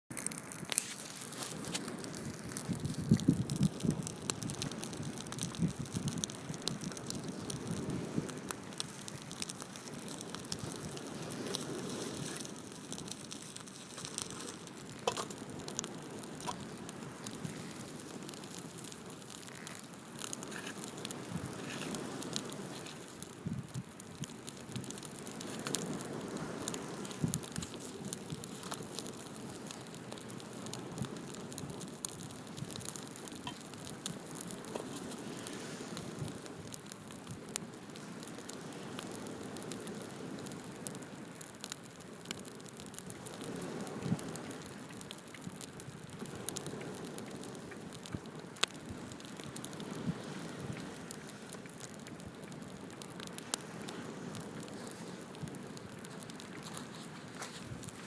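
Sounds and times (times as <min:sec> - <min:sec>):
fire pops: 0:00.1 - 0:58.0
wood fire crackling: 0:00.1 - 0:58.0.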